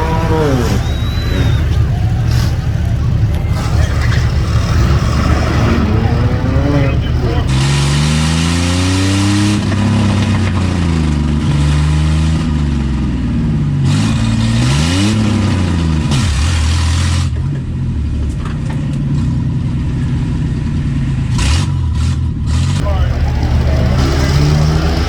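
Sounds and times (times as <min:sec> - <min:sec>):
car engine accelerating hard: 0:00.0 - 0:25.0
wind and road noise: 0:00.0 - 0:25.0.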